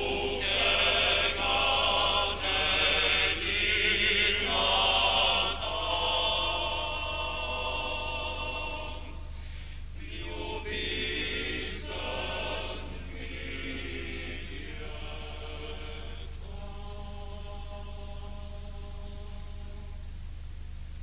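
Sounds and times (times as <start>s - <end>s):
choir singing long notes: 0.0s - 9.4s, 10.0s - 20.0s
steady hum: 0.0s - 21.0s.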